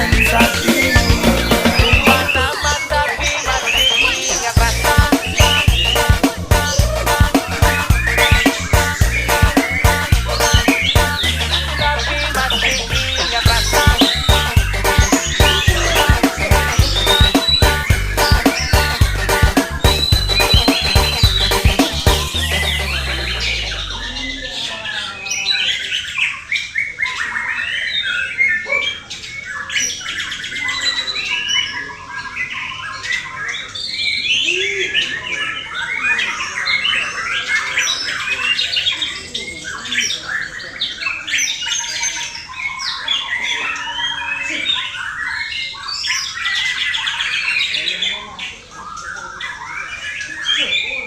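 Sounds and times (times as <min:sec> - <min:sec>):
songbird singing varied song: 0:00.0 - 0:51.0.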